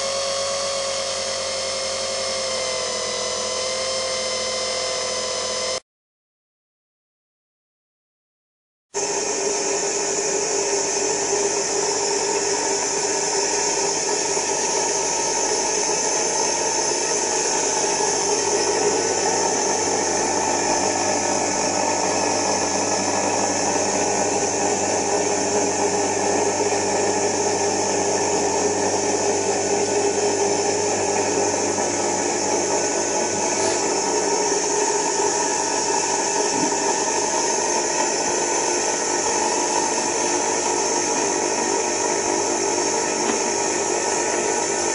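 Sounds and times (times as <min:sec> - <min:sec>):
electric motor humming: 0:00.0 - 0:05.8, 0:09.0 - 0:44.9.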